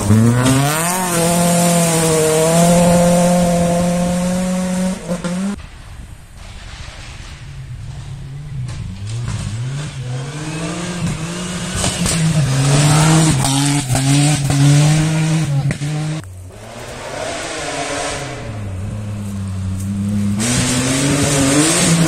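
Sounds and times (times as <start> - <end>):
rally car engine revving past: 0.0 - 5.6, 8.9 - 22.0.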